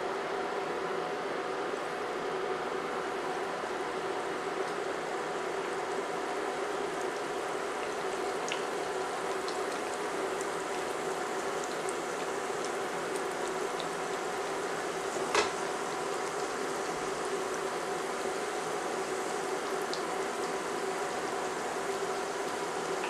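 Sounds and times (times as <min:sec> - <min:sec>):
faint steady hum: 0:00.0 - 0:23.0
meat pies sizzling in oil: 0:02.1 - 0:23.0.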